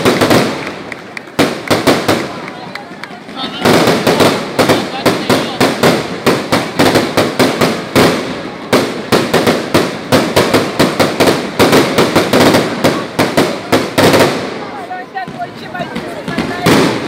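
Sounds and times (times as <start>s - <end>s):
fireworks bursting with sharp bangs: 0.0s - 17.0s.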